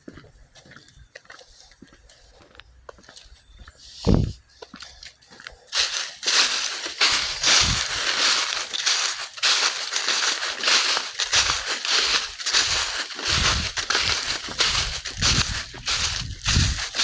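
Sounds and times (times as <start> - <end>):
crunching footsteps: 0.0 - 17.0.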